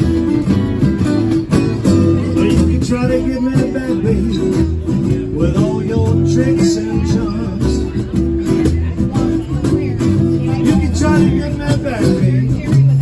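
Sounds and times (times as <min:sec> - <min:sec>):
acoustic guitars playing blues: 0:00.0 - 0:13.0.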